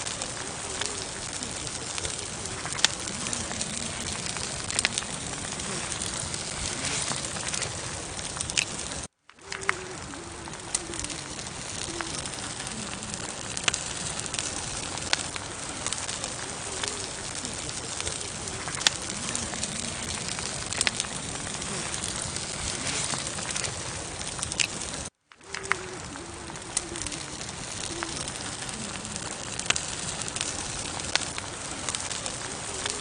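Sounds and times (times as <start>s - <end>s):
campfire hissing and crackling: 0.0s - 33.0s.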